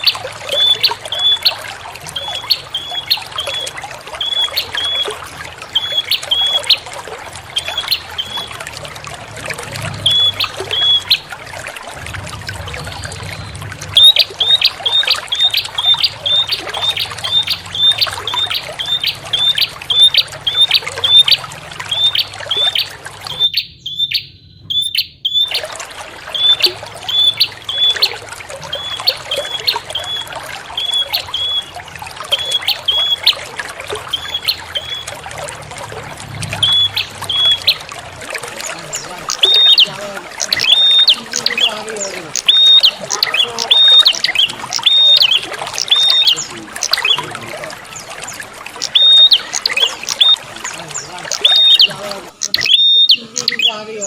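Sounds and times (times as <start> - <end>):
bird high chirps: 0.0 - 6.9, 7.5 - 8.6, 9.9 - 11.4, 12.8 - 25.7, 26.3 - 33.4, 34.0 - 35.2, 36.6 - 37.9, 38.6 - 54.0
water trickling: 0.0 - 54.0.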